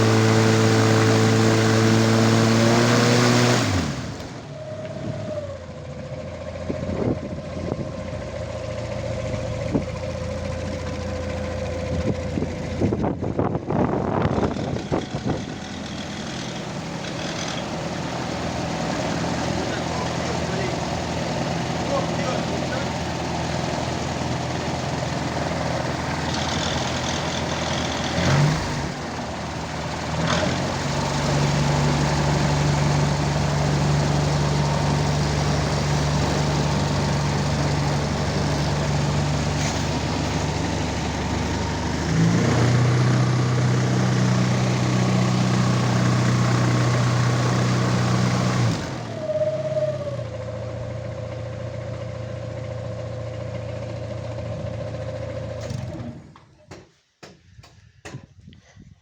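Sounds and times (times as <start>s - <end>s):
propeller engine running: 0.0s - 49.2s.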